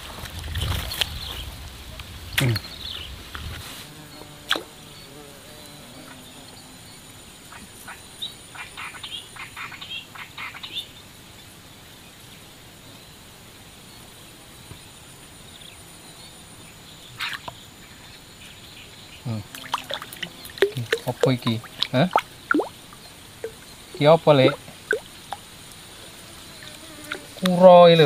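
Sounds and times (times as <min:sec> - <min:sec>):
outdoor background: 0:00.0 - 0:28.0.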